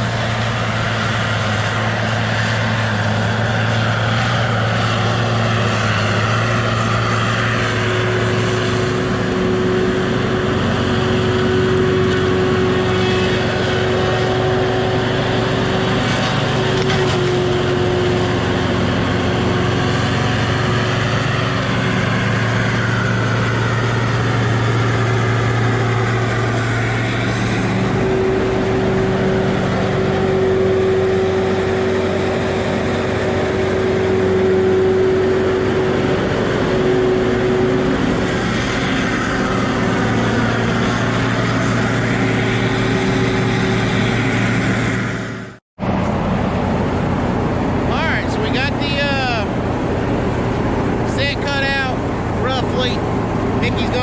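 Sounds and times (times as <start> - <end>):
diesel engine and hydraulics: 0.0 - 54.0.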